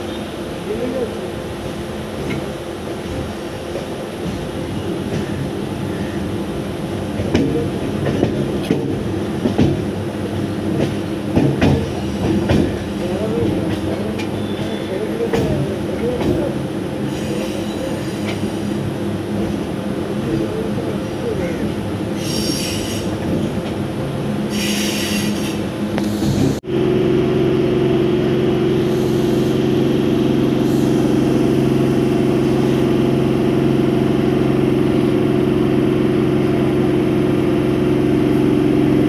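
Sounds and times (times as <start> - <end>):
steady train drone: 0.0 - 39.0
train wheels on rail: 0.0 - 39.0.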